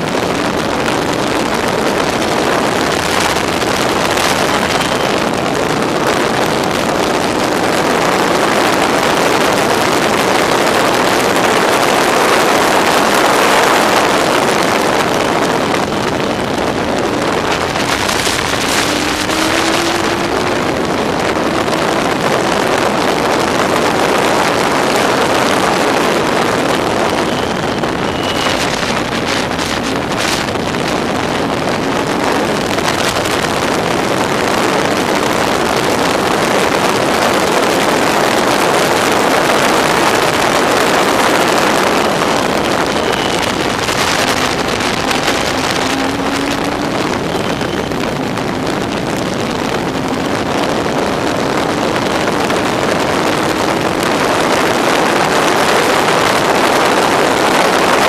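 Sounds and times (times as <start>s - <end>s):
engine drone: 0.0s - 58.0s
wind buffeting microphone: 0.0s - 58.0s.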